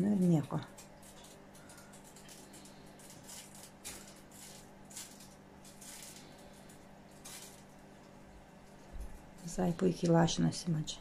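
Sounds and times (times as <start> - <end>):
rustling and handling noises: 0.0 - 10.8
low steady hum: 0.0 - 11.0.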